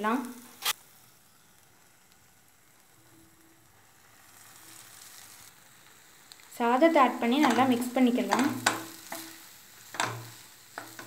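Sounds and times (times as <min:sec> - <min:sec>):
faint sizzling in a pan: 0:00.0 - 0:11.0.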